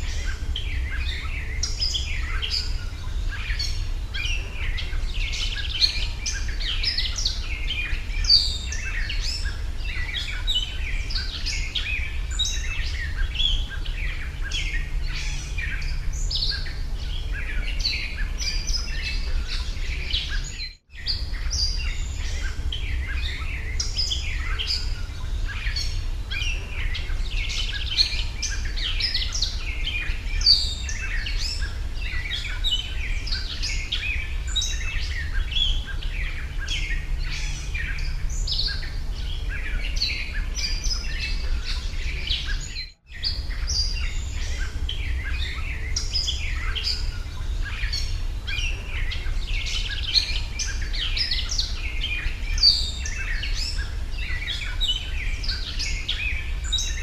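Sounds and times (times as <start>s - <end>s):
small birds chirping and singing: 0.0s - 57.0s
steady low rumble: 0.0s - 57.0s.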